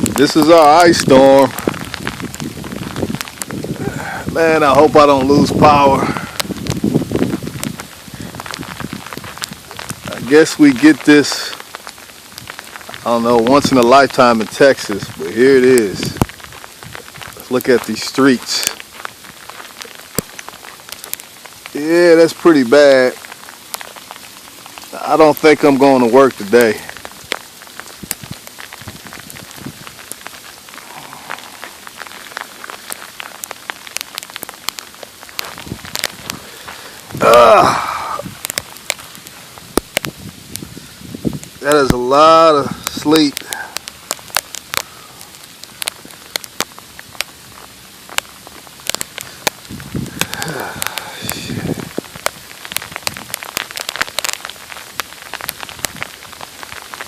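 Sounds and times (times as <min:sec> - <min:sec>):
light hiss: 0:00.0 - 0:57.0
sleet ticking on hard surfaces: 0:00.0 - 0:57.0.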